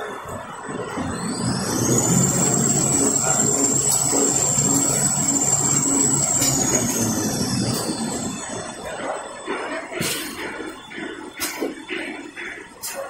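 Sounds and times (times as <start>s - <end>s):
high machine whine: 0.0s - 13.0s
machinery with low beat: 0.0s - 13.0s.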